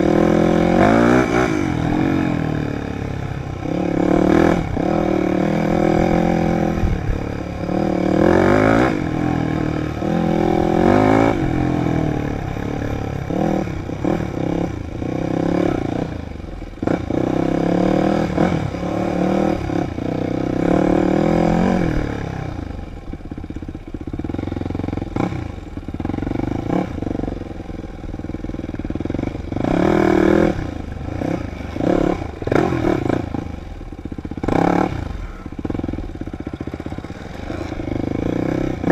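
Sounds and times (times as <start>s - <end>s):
dirt bike engine revving: 0.0s - 23.0s, 24.0s - 38.9s.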